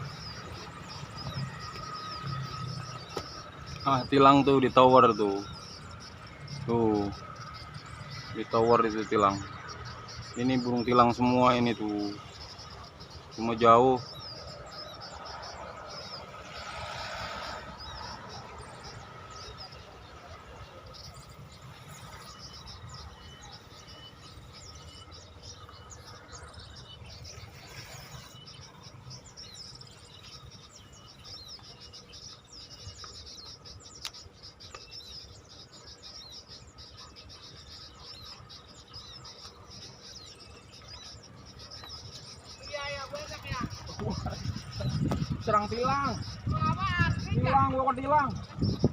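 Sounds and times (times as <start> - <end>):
insects trilling: 0.0 - 48.9
small birds chirping: 0.0 - 48.9.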